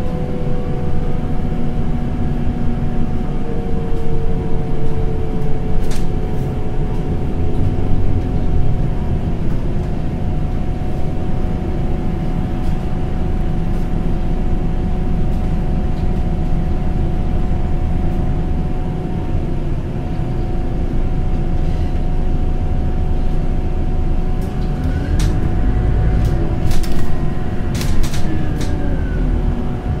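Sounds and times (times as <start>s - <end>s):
bus engine and road rumble: 0.0s - 30.0s
constant whine: 0.0s - 30.0s.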